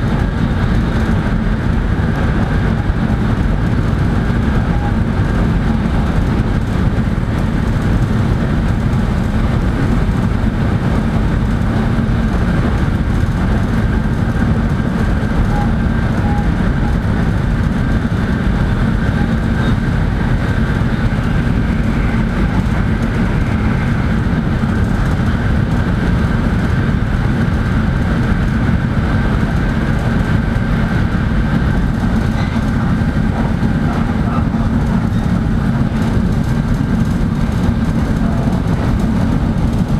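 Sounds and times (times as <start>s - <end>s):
constant low hum: 0.0s - 39.9s
train interior low rumble: 0.0s - 39.9s.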